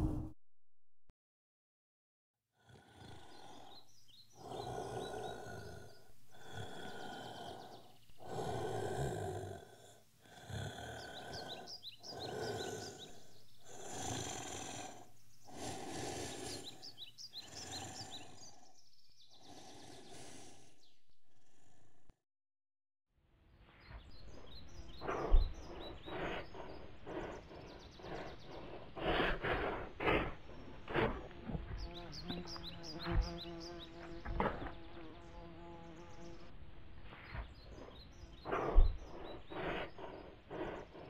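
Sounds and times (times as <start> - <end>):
heavy rasping breathing: 2.6 - 22.1, 24.3 - 34.9, 36.5 - 41.0.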